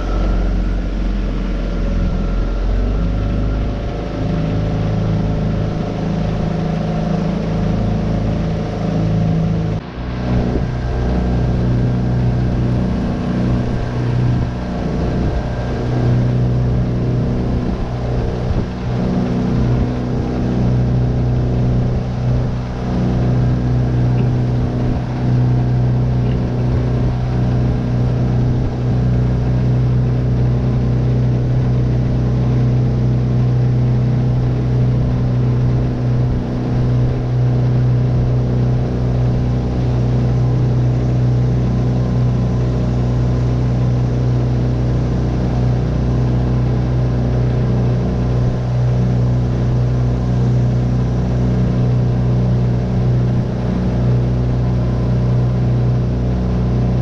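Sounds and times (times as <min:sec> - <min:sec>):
outboard motor humming: 0:00.0 - 0:57.0.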